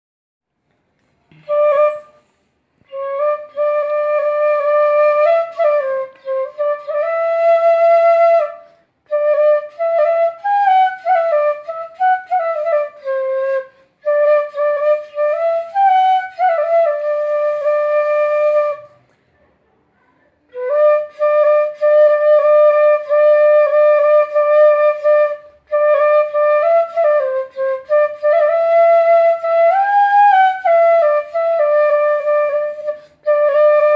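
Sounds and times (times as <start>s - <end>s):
bamboo flute melody: 1.3s - 19.0s, 20.5s - 33.9s.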